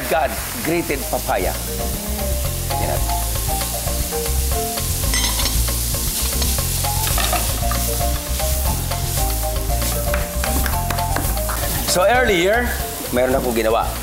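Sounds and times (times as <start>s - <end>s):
background music: 0.0s - 14.0s
food sizzling in frying pan: 0.0s - 14.0s.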